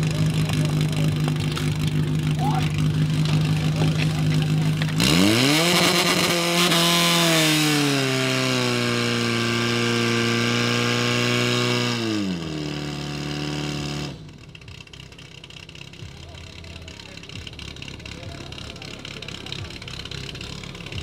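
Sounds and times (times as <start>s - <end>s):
fire pump engine revving: 0.0s - 21.0s.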